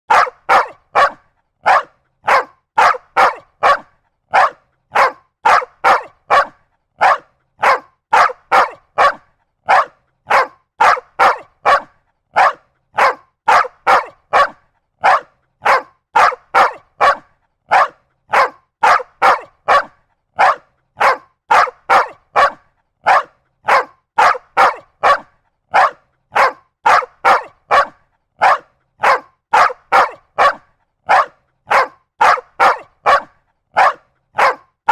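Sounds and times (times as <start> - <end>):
dog barking: 0.1 - 34.9.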